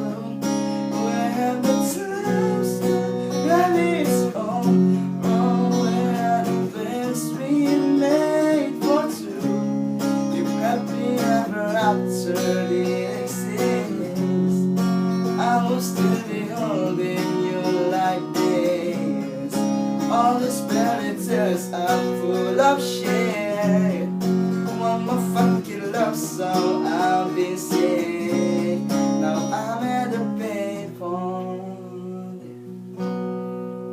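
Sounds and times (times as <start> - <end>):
person singing: 0.0 - 33.1
acoustic guitar strumming: 0.0 - 33.9.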